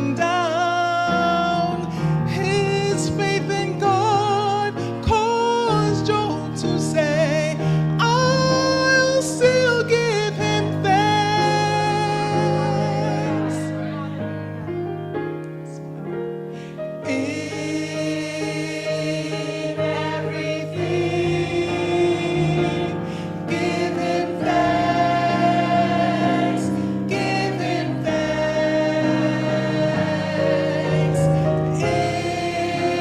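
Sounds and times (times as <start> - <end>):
choir singing gospel: 0.0 - 15.0, 16.6 - 33.0.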